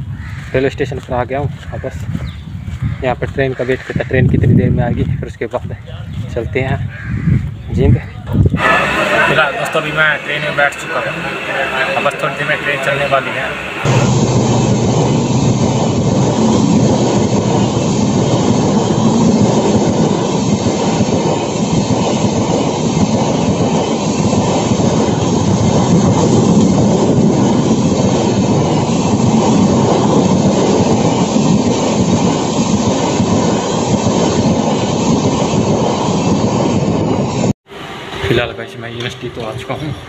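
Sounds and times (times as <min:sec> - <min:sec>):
train wheel and rail noise: 0:00.0 - 0:40.0.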